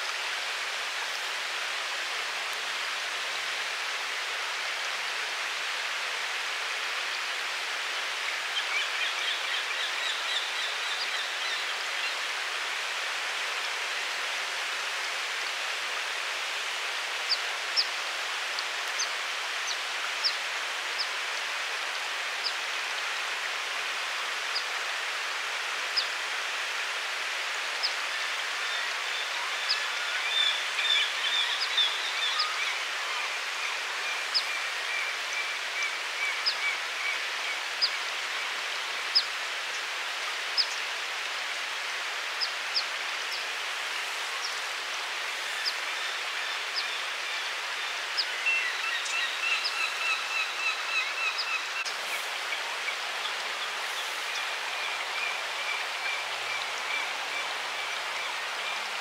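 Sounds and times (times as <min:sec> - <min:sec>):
flowing river water: 0:00.0 - 0:59.0.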